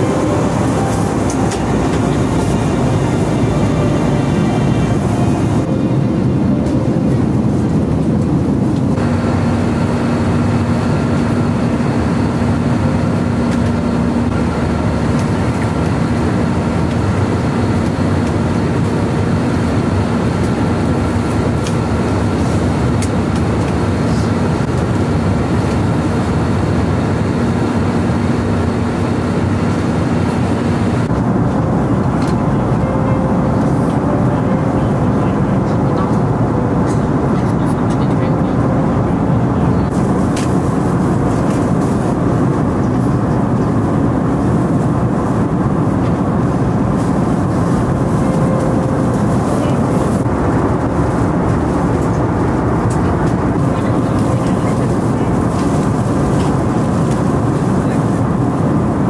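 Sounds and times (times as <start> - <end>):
airliner cabin rushing noise: 0.0 - 59.0.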